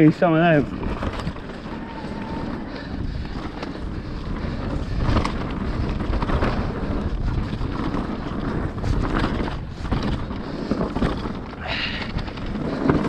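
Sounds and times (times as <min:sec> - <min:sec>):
bike rattling over bumps: 0:00.0 - 0:13.0
bike tyres rumbling over a trail: 0:00.0 - 0:13.0
wind buffeting the microphone: 0:00.0 - 0:13.0.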